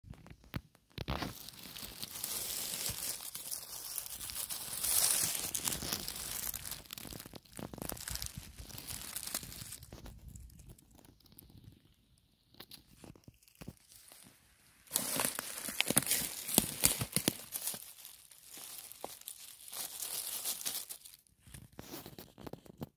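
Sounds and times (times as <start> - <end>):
dry leaves rustling and crunching: 1.0 - 11.7, 13.3 - 21.3.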